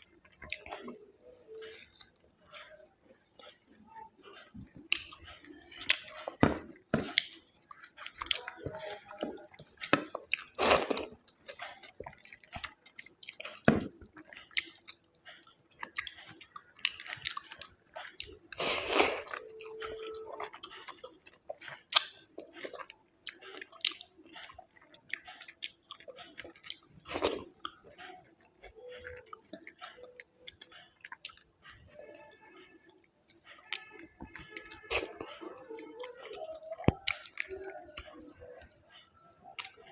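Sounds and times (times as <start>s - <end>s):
close chewing and eating: 0.0s - 39.9s.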